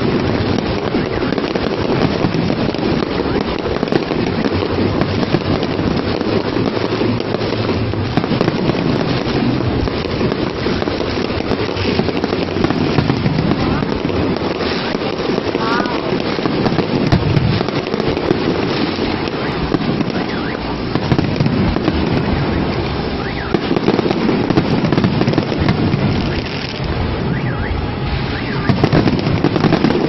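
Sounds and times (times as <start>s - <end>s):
fireworks bursting and crackling: 0.0s - 30.0s
fireworks whistling: 0.0s - 30.0s.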